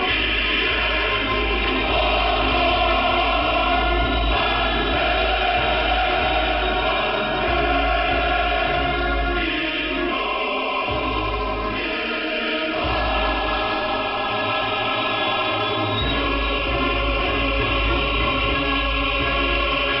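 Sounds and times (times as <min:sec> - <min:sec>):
choral music on shortwave radio: 0:00.0 - 0:20.0.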